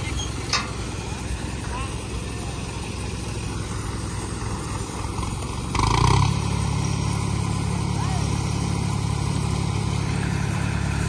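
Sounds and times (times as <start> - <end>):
diesel tractor engine revving: 0.0 - 11.0.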